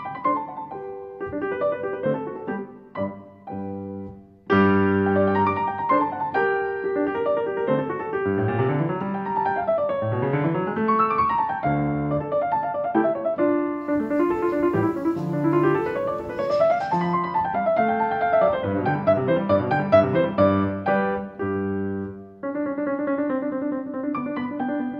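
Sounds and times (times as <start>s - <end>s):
piano music with quick runs: 0.0s - 24.9s.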